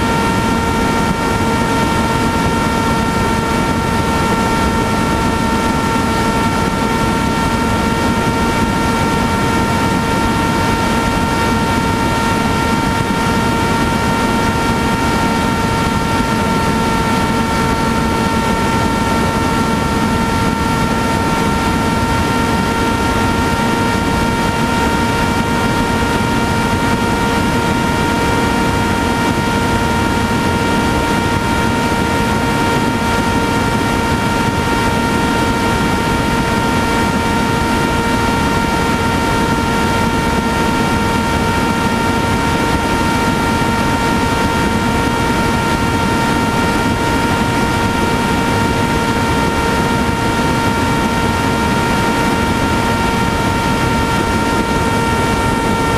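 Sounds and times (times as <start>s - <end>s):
electric motor and propeller whine: 0.0s - 55.9s
rushing wind noise: 0.0s - 55.9s.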